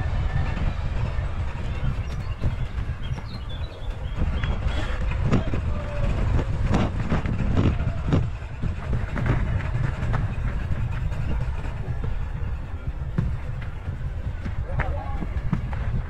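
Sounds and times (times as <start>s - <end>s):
bike rattling over rough ground: 0.0s - 16.0s
wind rumble on microphone: 0.0s - 16.0s.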